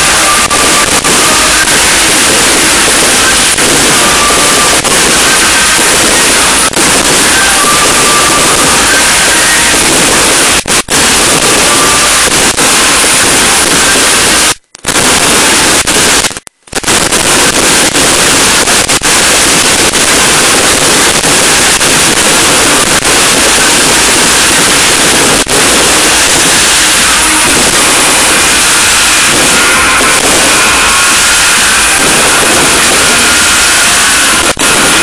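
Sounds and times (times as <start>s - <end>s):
firecrackers crackling: 0.0s - 35.0s.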